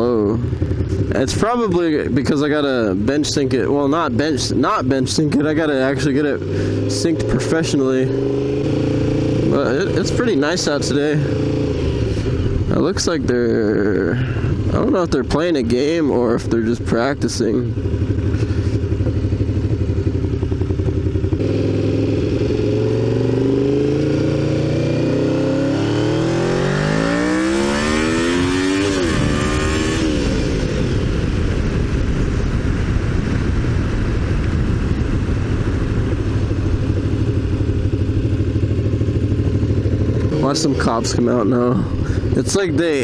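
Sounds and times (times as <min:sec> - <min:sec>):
motorcycle engine idling and revving: 0:00.0 - 0:43.0.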